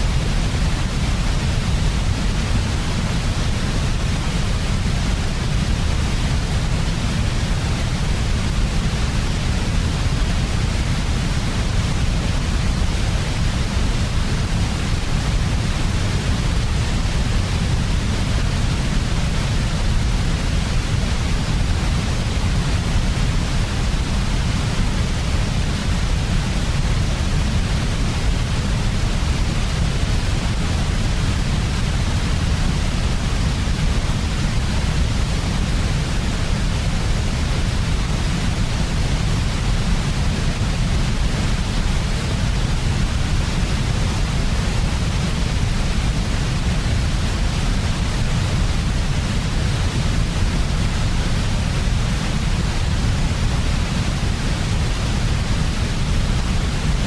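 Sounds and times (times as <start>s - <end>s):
white noise with deep rumble: 0.0s - 57.0s.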